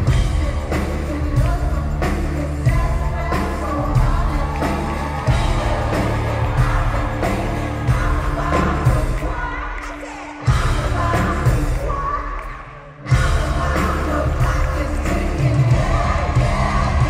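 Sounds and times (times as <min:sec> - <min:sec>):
live pop-rock band: 0:00.0 - 0:17.0
woman singing: 0:00.0 - 0:17.0.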